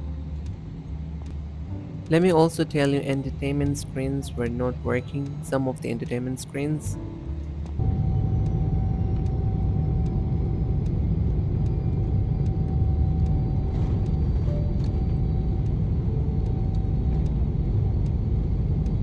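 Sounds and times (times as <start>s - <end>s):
airliner cabin rumble: 0.0s - 19.0s
faint steady hum: 0.0s - 19.0s.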